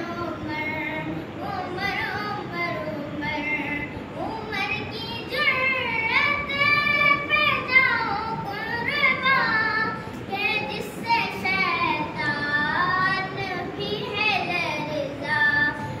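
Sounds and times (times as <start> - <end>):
boy singing unaccompanied: 0.0 - 16.0.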